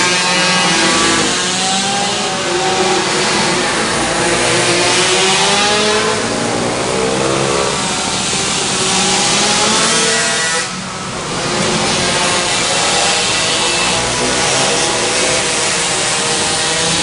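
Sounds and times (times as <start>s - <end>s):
minibike engines revving: 0.0s - 17.0s.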